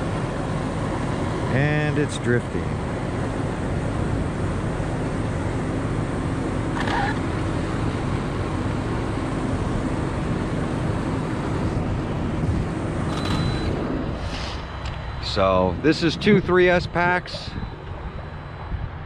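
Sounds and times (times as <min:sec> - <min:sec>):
trucks idling: 0:00.0 - 0:19.0.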